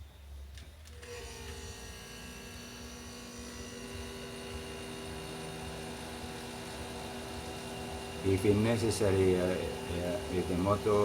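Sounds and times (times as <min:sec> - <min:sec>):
refrigerator compressor humming: 0:00.0 - 0:11.0.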